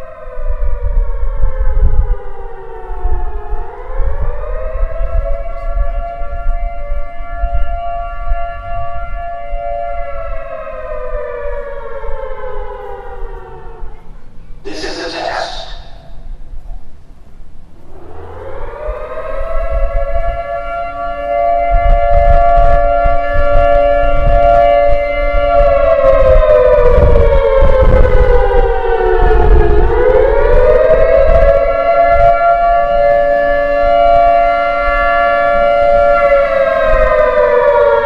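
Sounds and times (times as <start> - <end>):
warning siren wailing: 0.0 - 16.4, 17.7 - 38.0.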